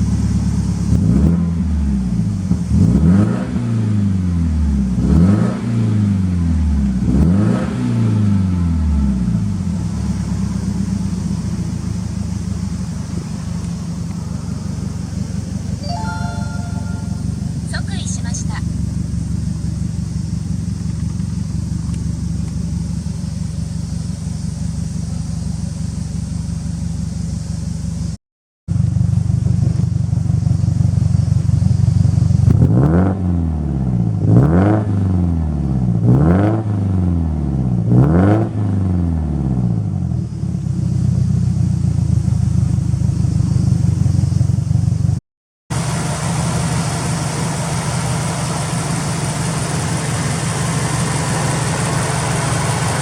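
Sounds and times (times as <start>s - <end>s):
car engine idling and revving: 0.0s - 15.8s, 17.3s - 53.0s.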